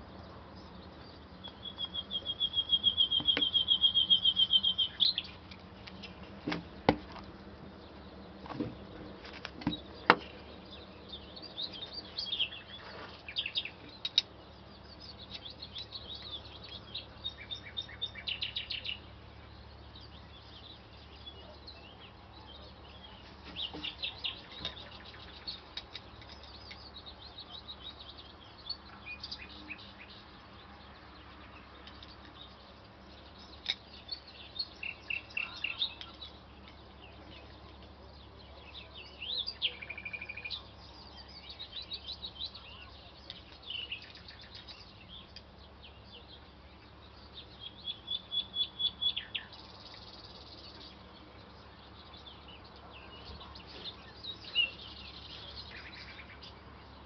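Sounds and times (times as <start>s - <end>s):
small birds trilling and chirping: 0.0s - 57.0s.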